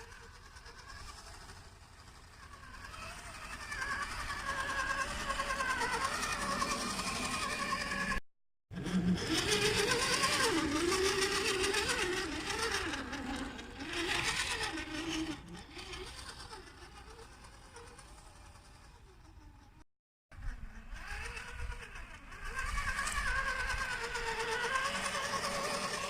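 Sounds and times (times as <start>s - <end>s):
toy car electric motor whining: 0.0s - 8.2s, 8.8s - 19.8s, 20.4s - 26.0s.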